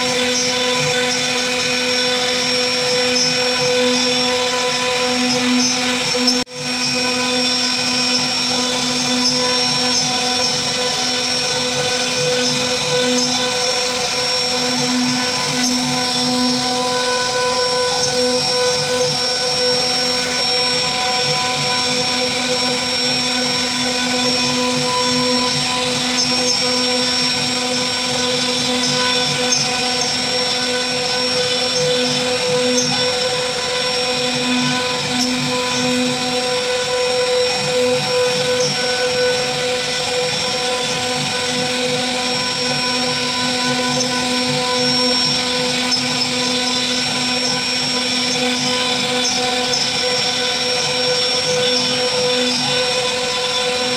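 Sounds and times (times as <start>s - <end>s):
cutter rasping in wood: 0.0s - 53.9s
router spindle whining: 0.0s - 53.9s.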